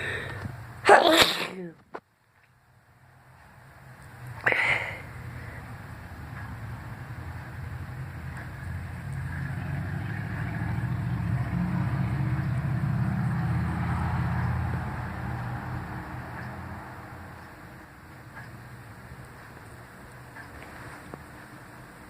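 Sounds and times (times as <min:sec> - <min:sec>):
low vehicle engine rumble: 0:02.6 - 0:22.0.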